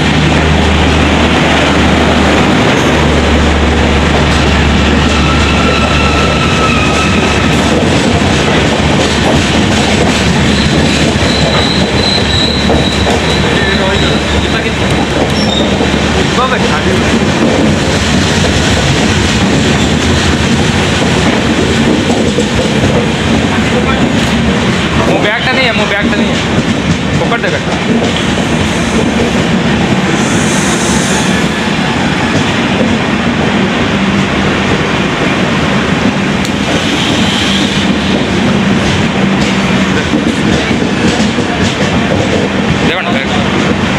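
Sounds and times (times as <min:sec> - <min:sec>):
train wheels rushing on rails: 0:00.0 - 0:43.9.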